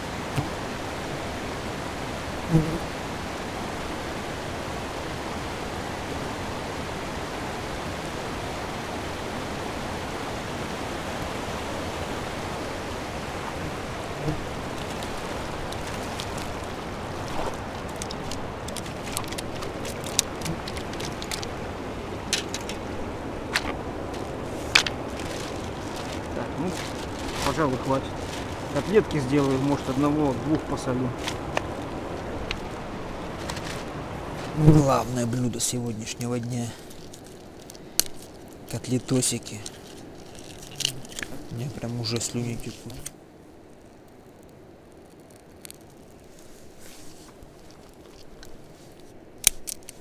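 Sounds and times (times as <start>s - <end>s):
river water rushing: 0.0s - 42.8s.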